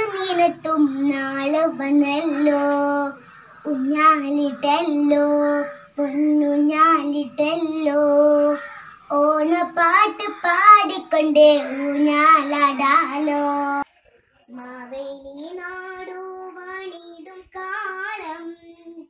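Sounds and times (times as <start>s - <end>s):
girl singing unaccompanied: 0.0s - 13.9s, 14.5s - 19.0s.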